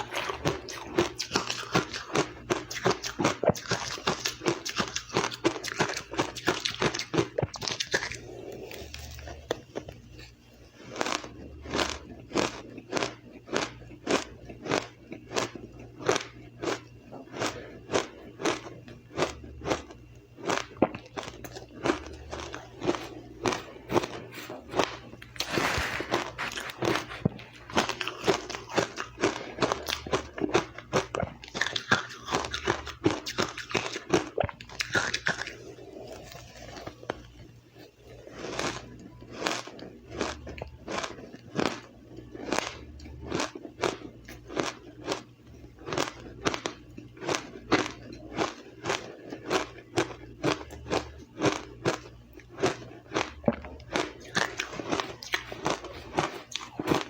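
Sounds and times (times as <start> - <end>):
chewing crushed ice: 0.0 - 57.0.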